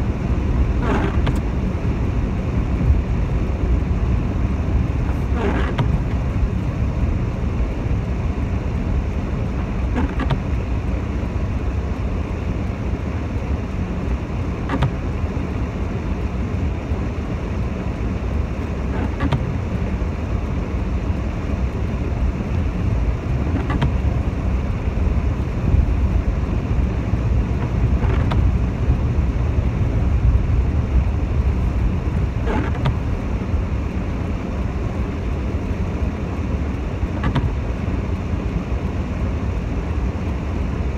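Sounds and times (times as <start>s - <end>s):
car engine rumble and road noise: 0.0s - 40.9s
windscreen wipers swishing: 0.0s - 40.9s.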